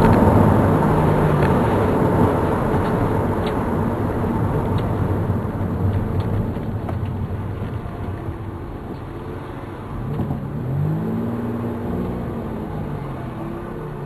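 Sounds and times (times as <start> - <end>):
car engine accelerating: 0.0 - 14.0
road noise: 0.0 - 14.0.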